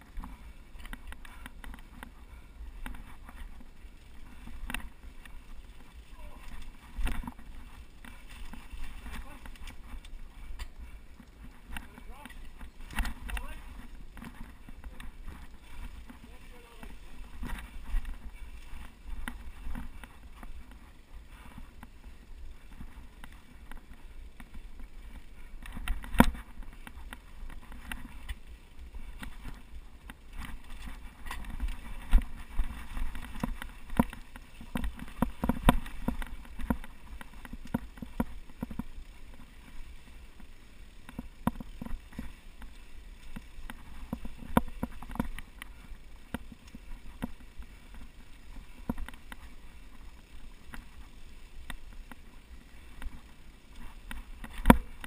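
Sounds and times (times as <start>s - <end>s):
bike rattling over bumps: 0.0s - 55.0s
tyres rolling on dirt: 0.0s - 55.0s.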